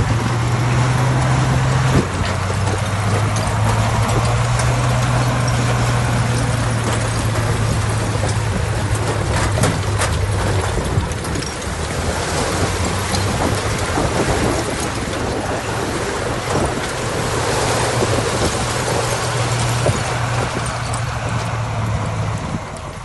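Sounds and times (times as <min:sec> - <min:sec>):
diesel machinery engine drone: 0:00.0 - 0:23.0.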